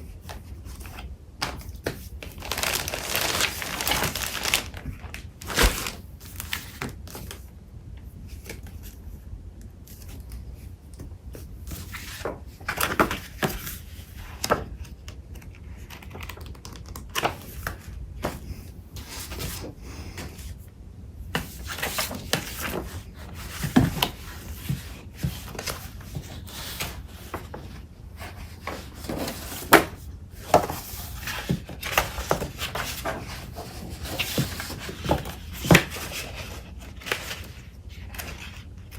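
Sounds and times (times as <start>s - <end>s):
paper rustling and crinkling: 0.0s - 7.5s, 9.8s - 20.6s, 21.3s - 38.9s.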